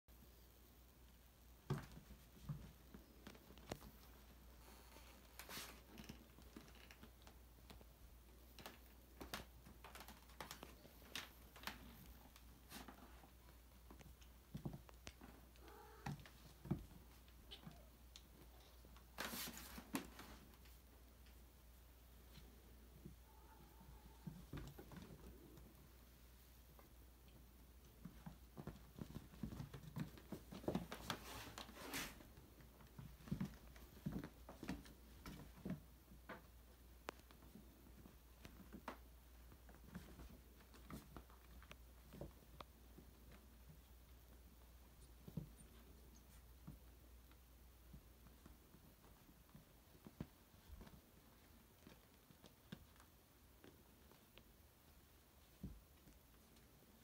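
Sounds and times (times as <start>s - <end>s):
kitten paws on wooden floor: 1.1s - 57.0s.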